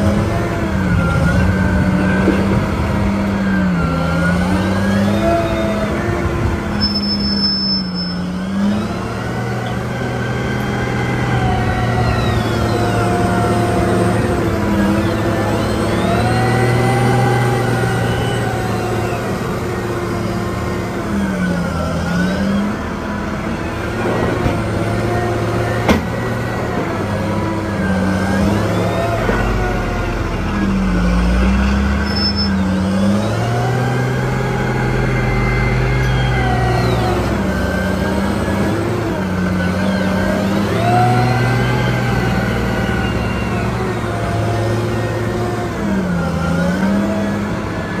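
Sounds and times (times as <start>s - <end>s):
diesel engine revving: 0.0s - 48.0s.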